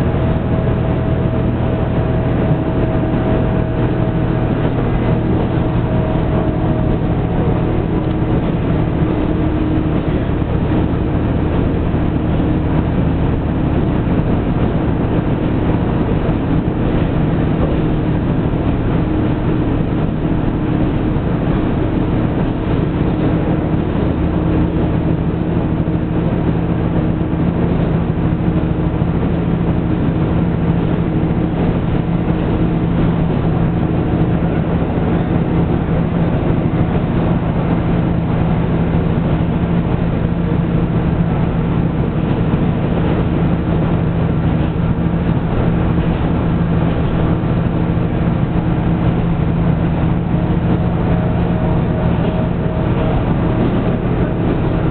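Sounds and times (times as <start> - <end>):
railcar engine drone: 0.0 - 54.9
train running noise: 0.0 - 54.9.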